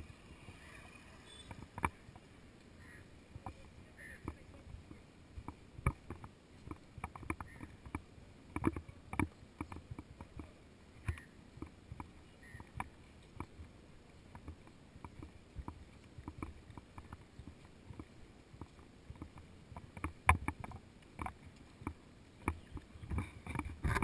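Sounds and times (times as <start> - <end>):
faint outdoor background noise: 0.0 - 24.0
footsteps walking: 1.5 - 24.0.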